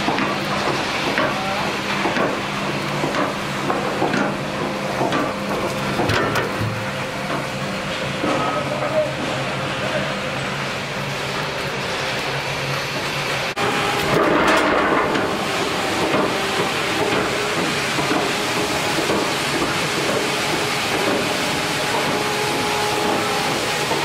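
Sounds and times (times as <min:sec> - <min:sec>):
log conveyor machinery clattering: 0:00.0 - 0:10.1, 0:11.1 - 0:24.0.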